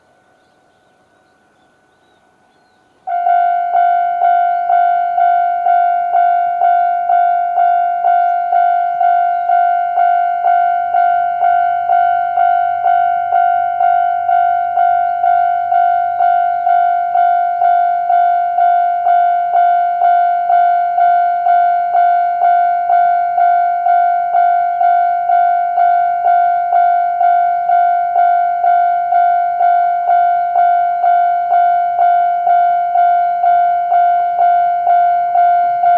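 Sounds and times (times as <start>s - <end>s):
level crossing alarm dinging: 3.1s - 35.9s.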